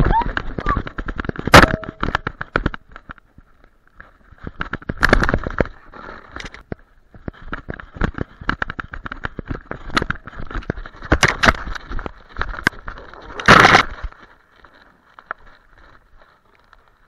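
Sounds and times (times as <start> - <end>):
camera knocking and rattling: 0.0 - 3.5, 4.2 - 16.0.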